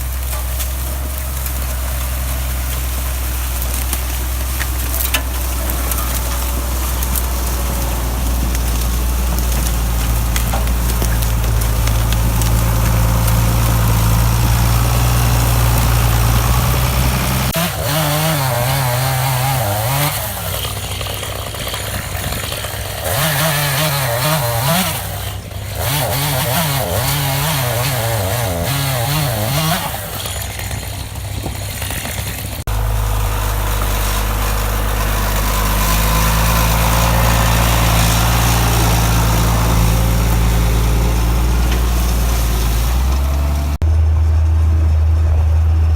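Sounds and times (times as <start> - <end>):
chainsaw cutting: 0.0 - 43.8
tractor engine running: 0.0 - 45.9.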